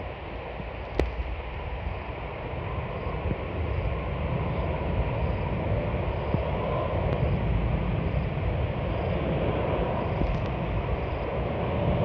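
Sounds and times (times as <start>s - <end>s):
jet engines roaring: 0.0s - 12.0s
wind rumbling on microphone: 0.0s - 12.0s.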